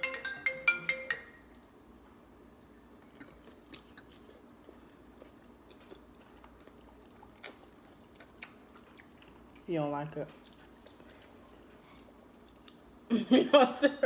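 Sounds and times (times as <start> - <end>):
faint chewing with crunches: 1.5 - 13.1.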